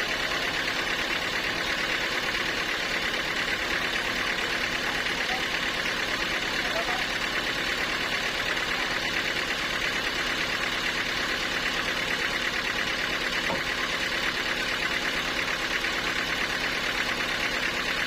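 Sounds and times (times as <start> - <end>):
sawmill machinery pulsing: 0.0 - 18.0.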